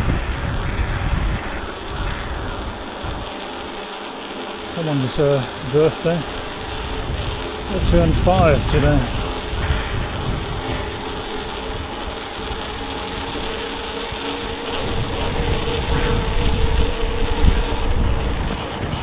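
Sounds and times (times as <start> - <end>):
bicycle tyre noise: 0.0 - 19.0
faint steady hum: 0.0 - 19.0
wind rumbling on microphone: 0.0 - 19.0.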